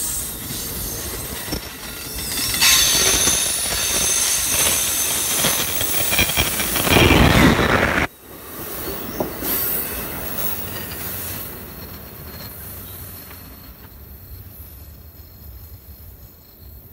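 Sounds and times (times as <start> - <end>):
train passing: 0.0 - 16.9
wheels whining on rails: 0.0 - 16.9.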